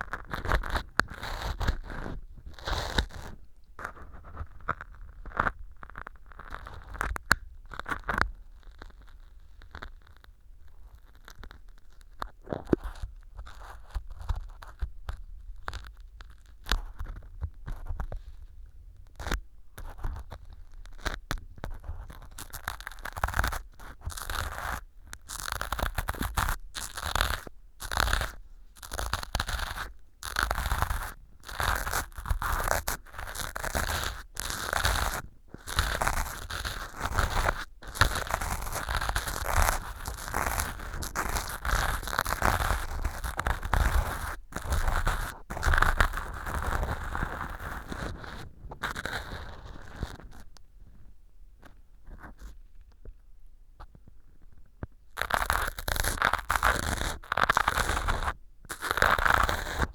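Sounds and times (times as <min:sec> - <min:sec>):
ear pick scraping foam: 0:00.0 - 0:09.9, 0:19.2 - 0:52.8, 0:55.2 - 0:59.9.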